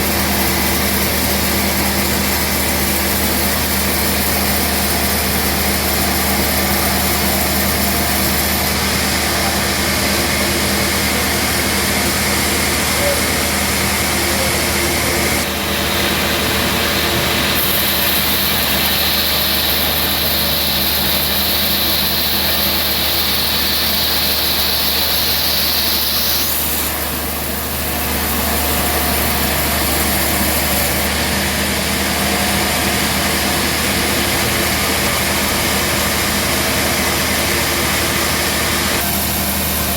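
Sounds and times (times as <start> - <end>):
band sawmill machinery running: 0.0 - 39.9.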